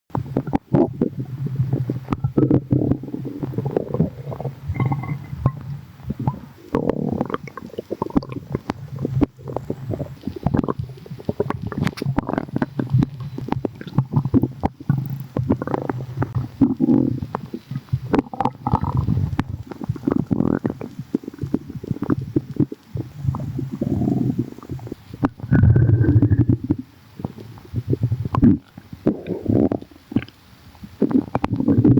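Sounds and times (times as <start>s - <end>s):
stomach rumbling and gurgling: 0.1s - 31.9s.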